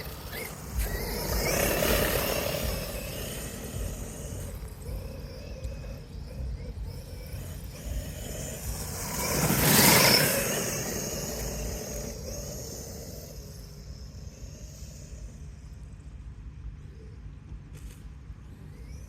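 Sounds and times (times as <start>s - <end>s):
rc car driving through grass: 0.0s - 16.0s, 16.9s - 19.0s
low rumble: 0.0s - 17.7s.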